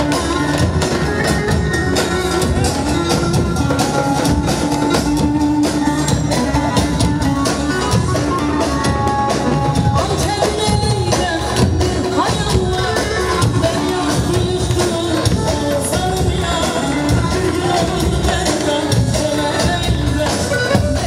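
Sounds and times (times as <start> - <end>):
held melody line: 0.0 - 21.0.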